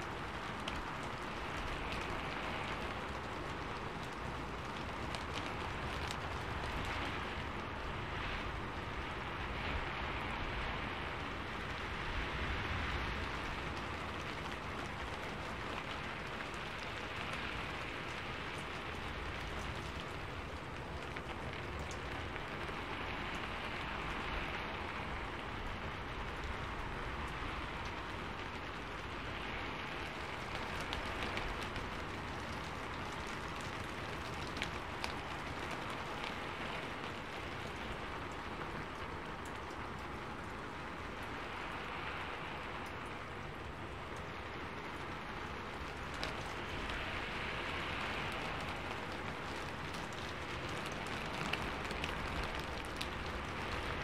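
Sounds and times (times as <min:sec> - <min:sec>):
steady rain hiss: 0:00.0 - 0:54.0
raindrop taps: 0:00.1 - 0:07.8, 0:12.9 - 0:54.0.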